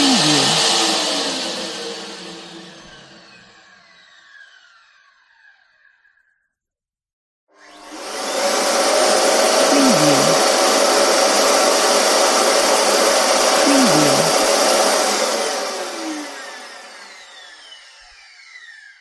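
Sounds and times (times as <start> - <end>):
vacuum cleaner running: 0.0 - 5.4, 7.6 - 19.0.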